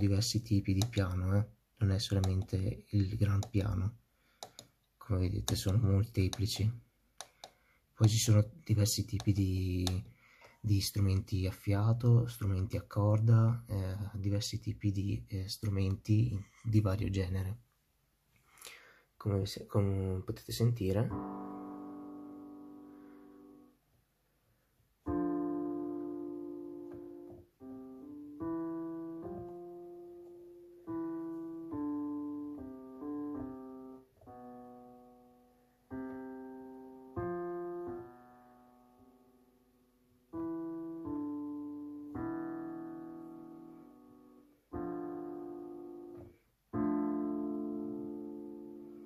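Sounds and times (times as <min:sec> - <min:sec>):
piano chords and notes: 0:00.0 - 0:17.4, 0:19.4 - 0:49.0.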